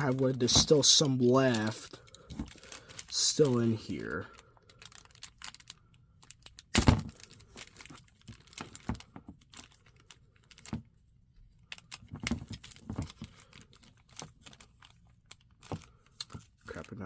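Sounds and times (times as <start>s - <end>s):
plastic wrap crinkling: 0.0s - 10.9s, 11.6s - 17.0s.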